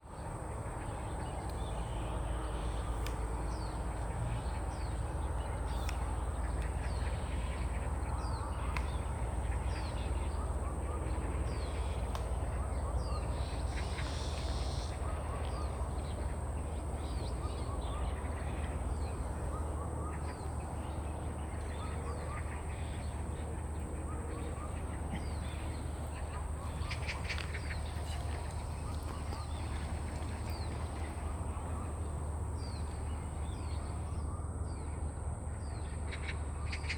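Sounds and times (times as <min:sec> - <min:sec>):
steady low rumble: 0:02.5 - 0:34.3.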